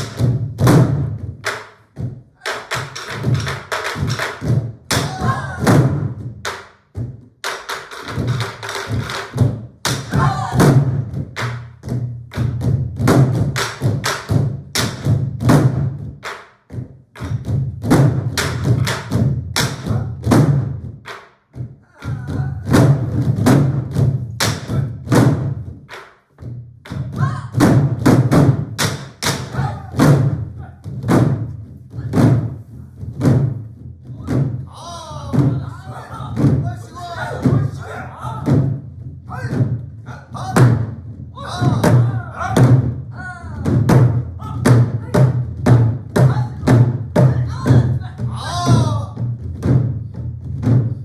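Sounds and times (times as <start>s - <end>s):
barrel drums ensemble: 0.0s - 51.0s.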